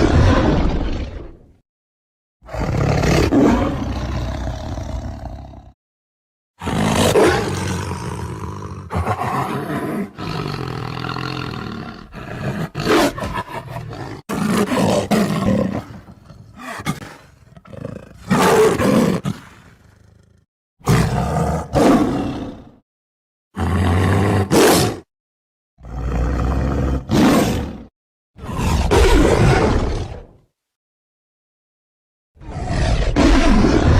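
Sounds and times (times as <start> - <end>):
tiger roaring and growling: 0.0 - 1.6, 2.4 - 5.8, 6.6 - 22.8, 23.6 - 25.1, 25.8 - 30.4, 32.4 - 33.9.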